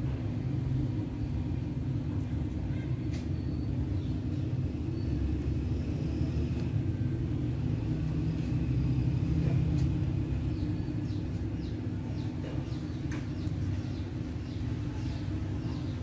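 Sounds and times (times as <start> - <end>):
low rumble with hum: 0.0 - 16.0.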